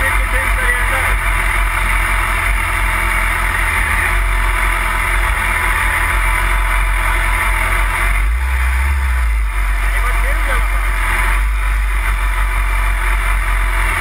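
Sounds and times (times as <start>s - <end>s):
motorcycle engine low drone: 0.0s - 14.0s.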